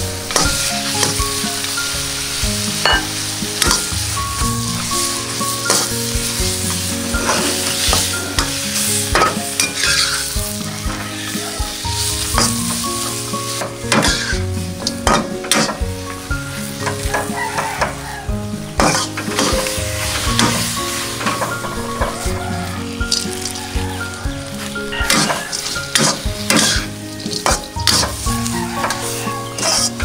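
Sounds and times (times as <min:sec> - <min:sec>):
chicken sizzling in a wok: 0:00.0 - 0:30.0
metal spatula scraping wok: 0:00.2 - 0:15.9, 0:16.6 - 0:30.0.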